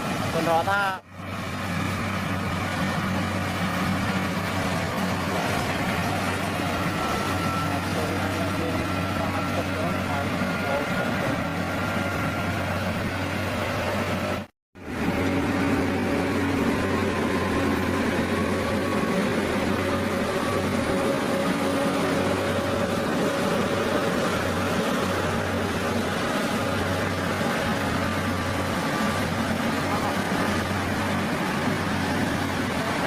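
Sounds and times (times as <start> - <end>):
heavy machinery engine humming: 0.0 - 33.0.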